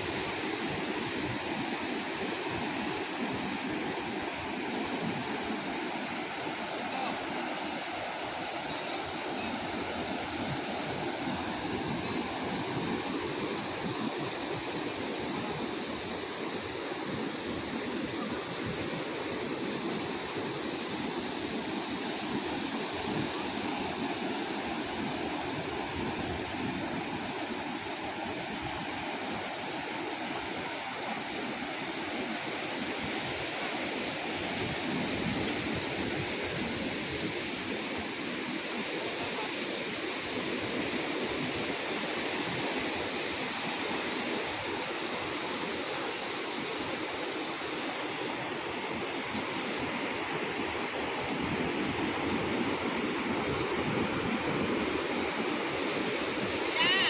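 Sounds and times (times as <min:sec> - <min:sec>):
ocean surf on a beach: 0:00.0 - 0:57.0.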